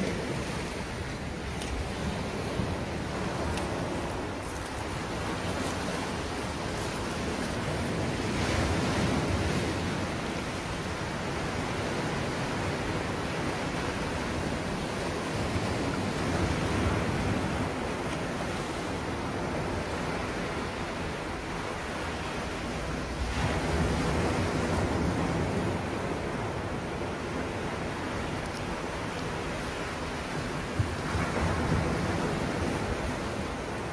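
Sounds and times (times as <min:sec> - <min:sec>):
waves breaking on rocks: 0:00.0 - 0:33.9.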